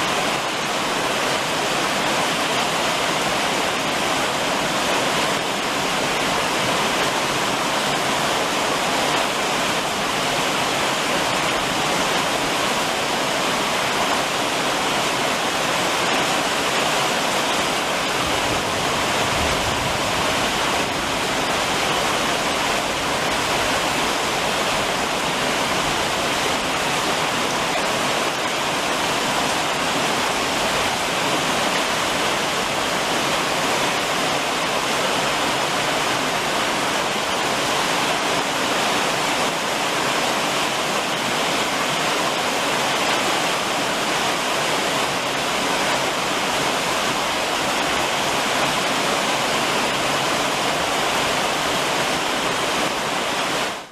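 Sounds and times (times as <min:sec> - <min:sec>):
rain drumming on a roof: 0:00.0 - 0:53.9.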